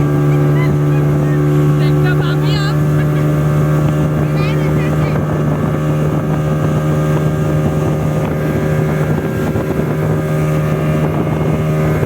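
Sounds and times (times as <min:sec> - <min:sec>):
speedboat engine running: 0:00.0 - 0:12.0
wind on microphone: 0:00.0 - 0:12.0.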